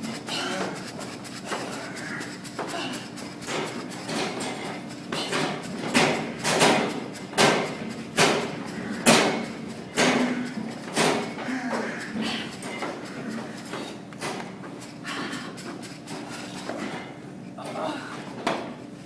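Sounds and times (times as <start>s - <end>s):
battle ropes slapping floor: 0.0s - 17.1s.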